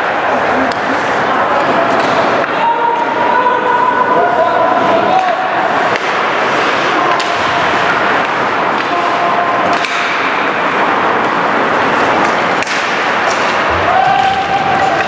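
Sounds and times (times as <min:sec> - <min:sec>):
hockey sticks cracking on puck: 0:00.0 - 0:02.6, 0:05.0 - 0:15.0
skating and rink noise: 0:00.0 - 0:15.0.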